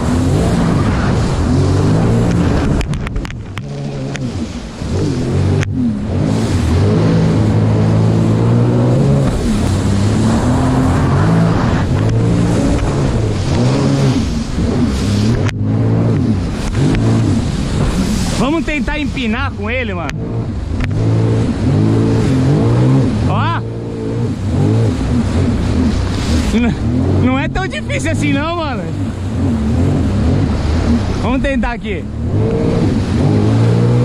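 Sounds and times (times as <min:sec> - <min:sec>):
jet ski engine revving: 0:00.0 - 0:34.0.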